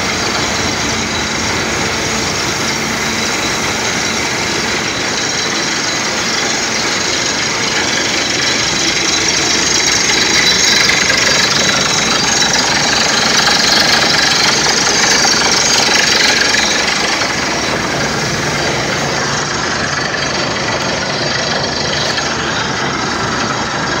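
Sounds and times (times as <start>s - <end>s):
drilling rig machine noise: 0.0s - 24.0s.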